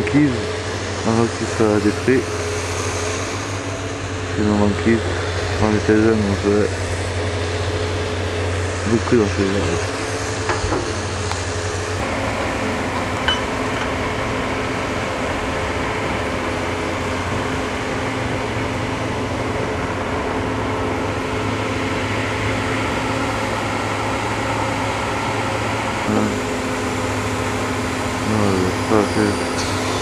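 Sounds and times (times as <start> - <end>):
excavator diesel engine droning: 0.0 - 30.0.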